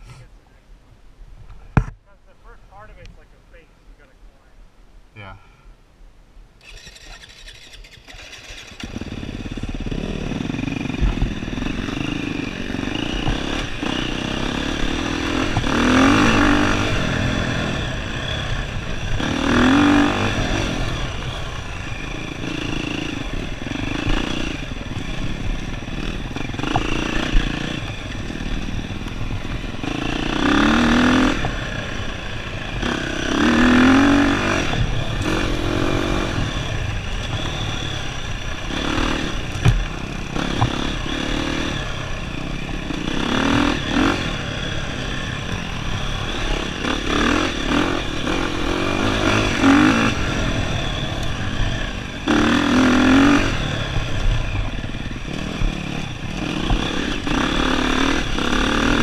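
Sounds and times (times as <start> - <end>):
dirt bike engine revving: 6.6 - 59.0.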